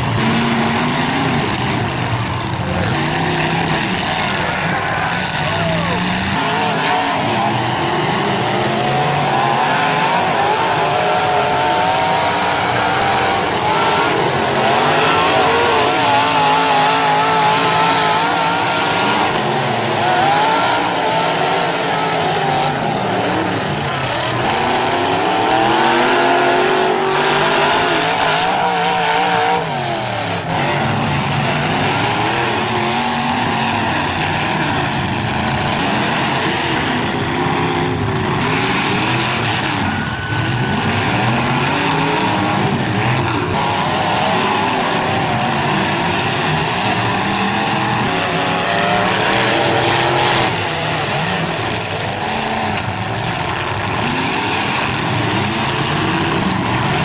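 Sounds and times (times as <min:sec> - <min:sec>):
car engines revving: 0:00.0 - 0:57.0
noisy din: 0:00.0 - 0:57.0.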